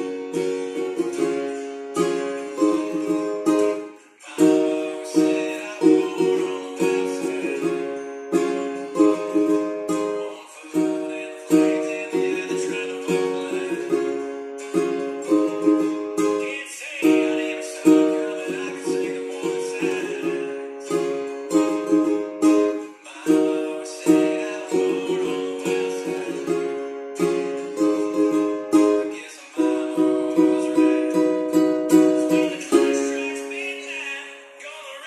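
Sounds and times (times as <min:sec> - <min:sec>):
ukulele strummed: 0:00.0 - 0:35.0.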